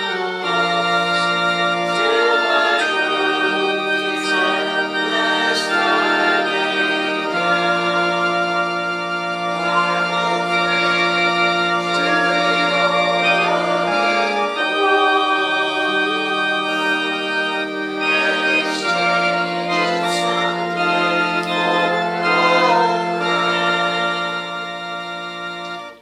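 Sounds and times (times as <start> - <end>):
organ playing hymn chords: 0.0 - 26.0.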